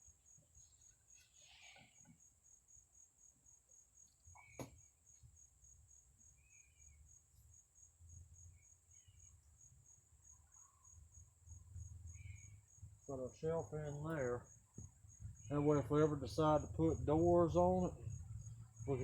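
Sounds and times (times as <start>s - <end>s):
faint crickets chirping: 0.0s - 19.0s.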